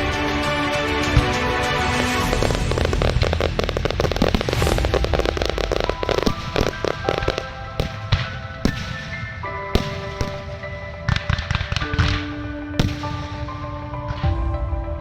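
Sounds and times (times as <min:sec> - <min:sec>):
fireworks crackling and banging: 0:00.0 - 0:14.3.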